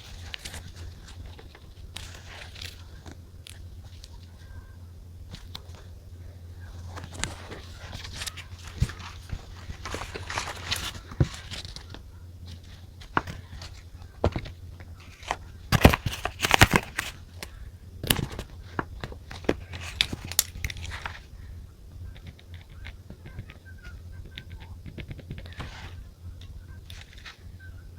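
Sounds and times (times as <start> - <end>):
paper rustling and crinkling: 0.0 - 4.6, 5.3 - 21.5, 22.1 - 27.5.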